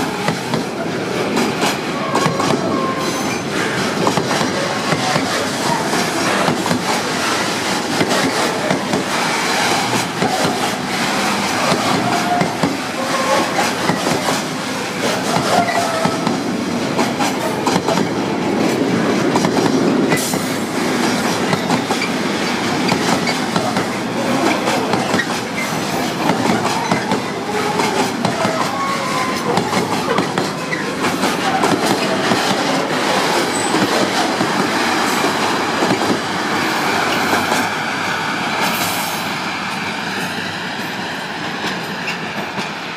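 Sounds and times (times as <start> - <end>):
train wheels clattering over rails: 0.0 - 37.8, 38.5 - 42.9.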